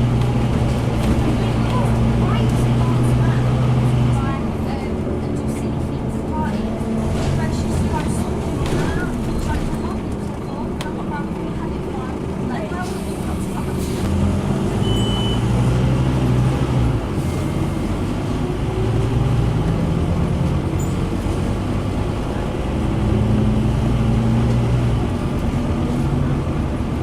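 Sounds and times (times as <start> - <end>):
bus diesel engine droning: 0.0 - 27.0.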